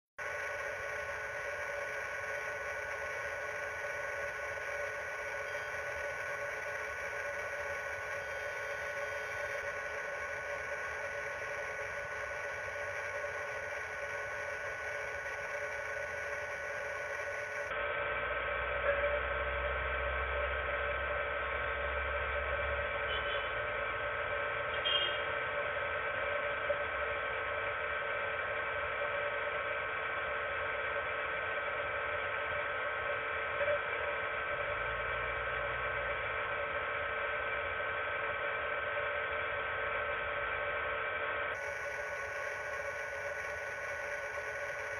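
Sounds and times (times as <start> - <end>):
electrical hum and whine: 0.2 - 44.9.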